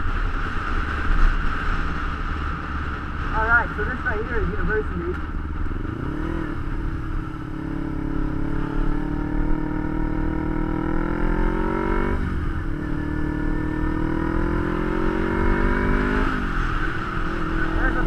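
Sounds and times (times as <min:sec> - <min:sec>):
low wind rumble: 0:00.0 - 0:18.0
motorcycle engine accelerating: 0:00.0 - 0:18.0.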